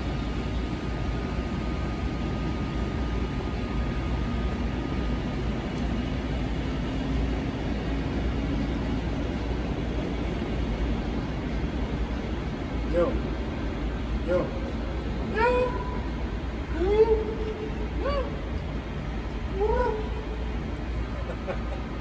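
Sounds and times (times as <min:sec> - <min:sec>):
faint electric motor hum: 0:00.0 - 0:22.0
train rumbling: 0:00.0 - 0:22.0.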